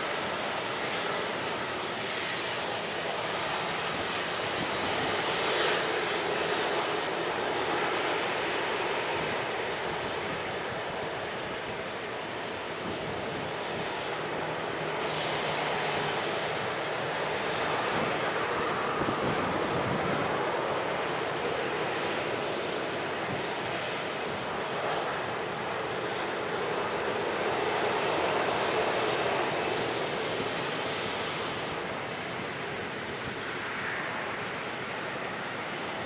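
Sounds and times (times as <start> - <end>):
jet engines running: 0.0 - 36.0.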